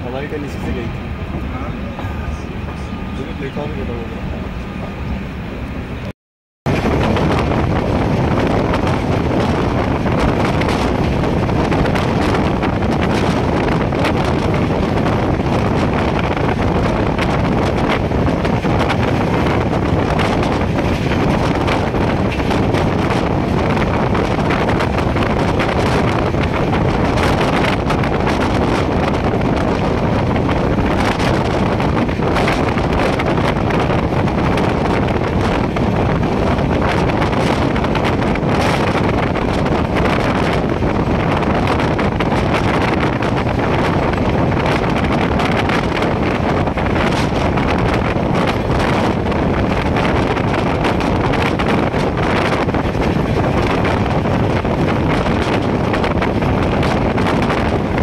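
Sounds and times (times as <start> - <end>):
train running rumble: 0.0 - 6.1, 6.7 - 58.0
wind buffeting microphone: 0.0 - 6.1, 6.7 - 58.0.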